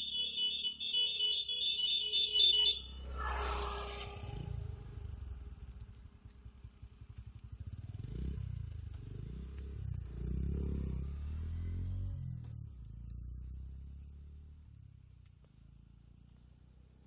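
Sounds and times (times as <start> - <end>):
vehicle engine rumbling: 2.5 - 17.0.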